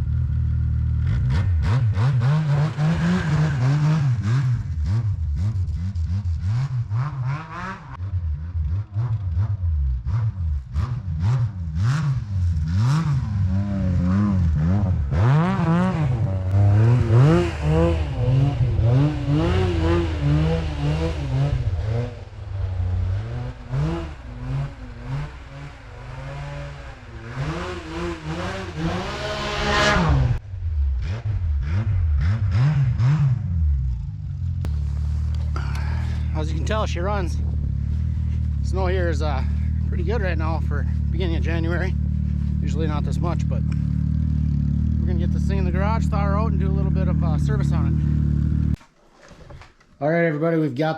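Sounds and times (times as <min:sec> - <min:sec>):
snowmobile engine revving: 0:00.0 - 0:34.0, 0:34.6 - 0:48.8.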